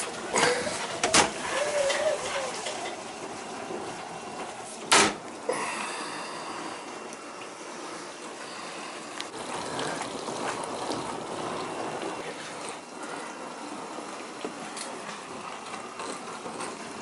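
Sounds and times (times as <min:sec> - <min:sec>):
dishwasher water rushing: 0:00.0 - 0:17.0.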